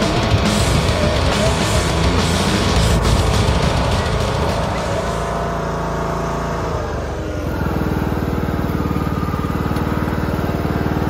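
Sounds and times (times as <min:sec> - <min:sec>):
lawn mower engine pulsing: 0:00.0 - 0:11.0.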